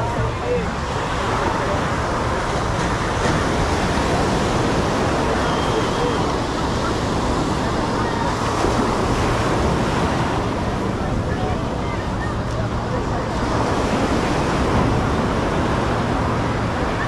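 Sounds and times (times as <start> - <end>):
ocean surf: 0.0 - 17.0
voices of people: 0.0 - 17.0.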